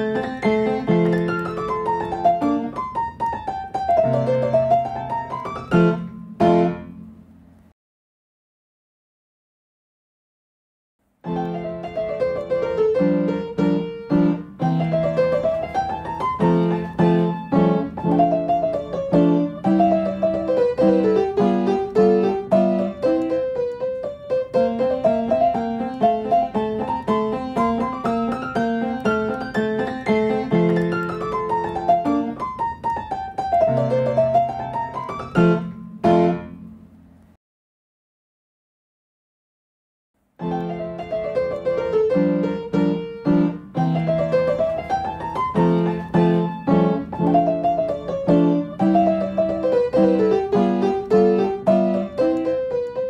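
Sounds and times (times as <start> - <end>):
piano piece: 0.0 - 7.6, 11.1 - 37.4, 40.3 - 53.0.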